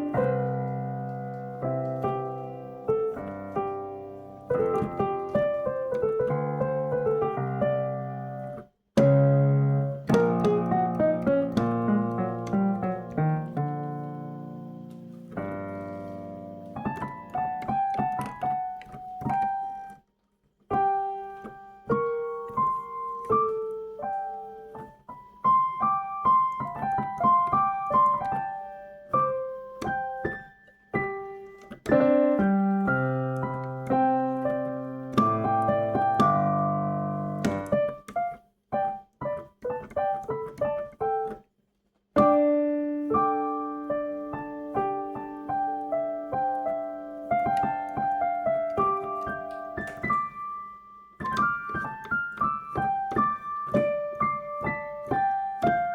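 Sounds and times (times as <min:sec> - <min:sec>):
piano notes and chords: 0:00.0 - 0:55.9.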